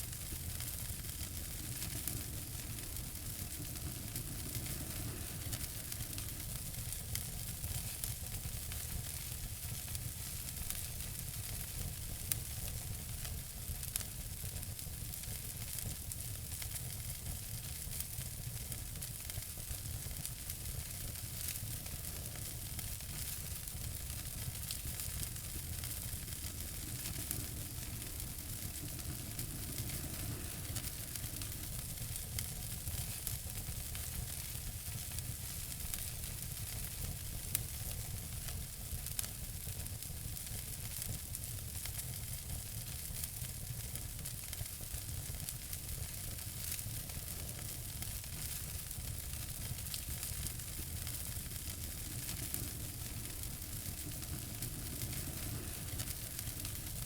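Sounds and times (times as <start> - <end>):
fire crackles and pops: 0.0 - 57.0
wood fire hiss and rumble: 0.0 - 57.0.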